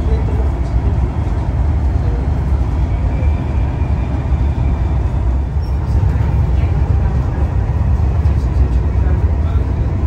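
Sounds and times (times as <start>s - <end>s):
train running low rumble: 0.0s - 10.0s.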